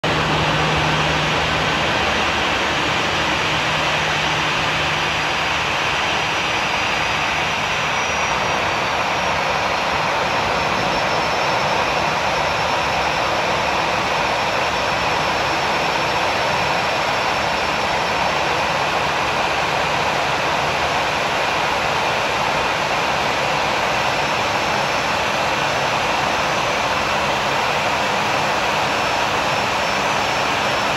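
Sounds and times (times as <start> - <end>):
faint high whine: 0.0 - 30.9
jet engines humming: 0.0 - 30.9.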